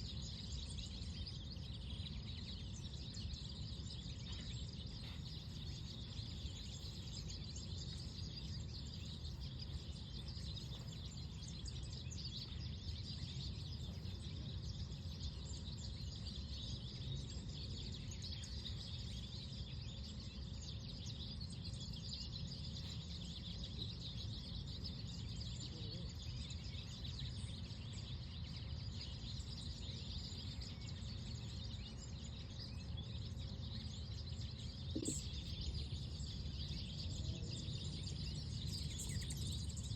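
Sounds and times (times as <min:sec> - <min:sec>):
low rumble of breeze: 0:00.0 - 0:39.9
small birds chirping: 0:00.0 - 0:39.9.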